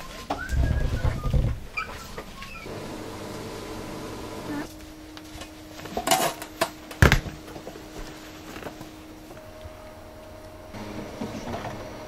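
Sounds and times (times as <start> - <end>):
faint steady hum: 1.4 - 12.0.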